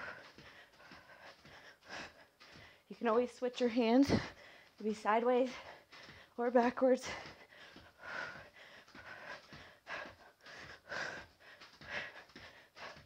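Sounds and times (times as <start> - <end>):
woman breathing hard: 0.0 - 2.9, 4.0 - 4.8, 5.5 - 6.4, 7.0 - 13.0.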